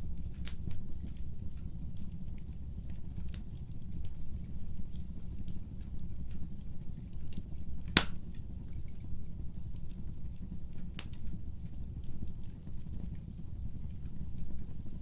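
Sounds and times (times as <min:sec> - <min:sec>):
fire crackling in fireplace: 0:00.0 - 0:15.0.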